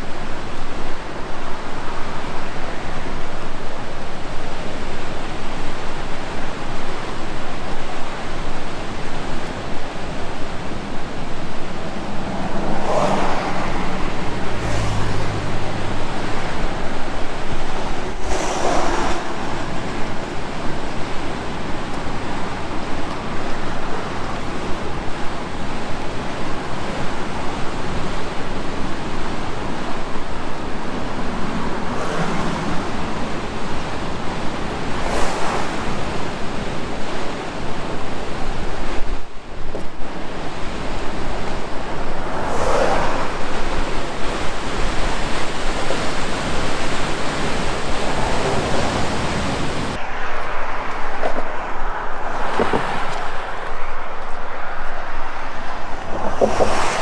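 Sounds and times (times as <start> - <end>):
fast-flowing water rushing: 0.0 - 57.0.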